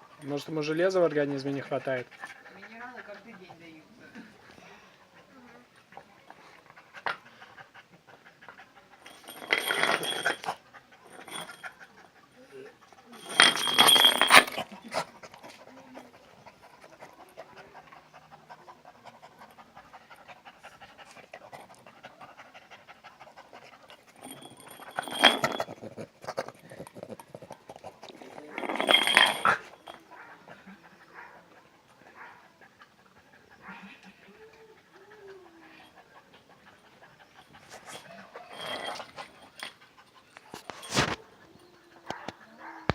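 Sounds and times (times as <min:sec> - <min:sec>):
dog panting: 0:01.0 - 0:04.0, 0:04.6 - 0:13.4, 0:14.0 - 0:28.8, 0:29.4 - 0:42.9.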